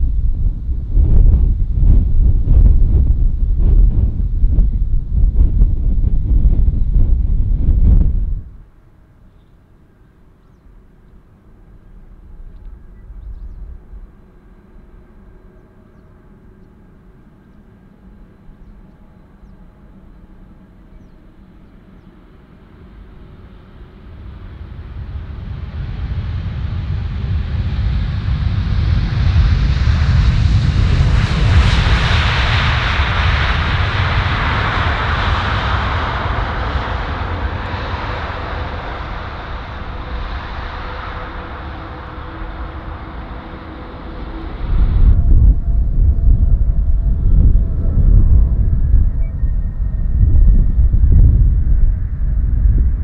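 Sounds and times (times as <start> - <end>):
jet engine of landing airliner: 0.0 - 53.0.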